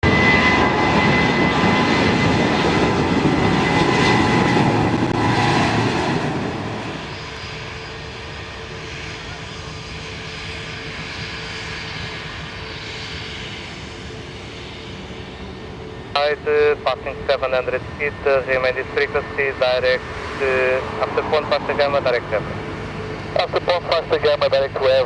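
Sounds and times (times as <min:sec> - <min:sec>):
high-pitched engine whine: 0:00.0 - 0:25.0
jet engines running: 0:00.0 - 0:25.0.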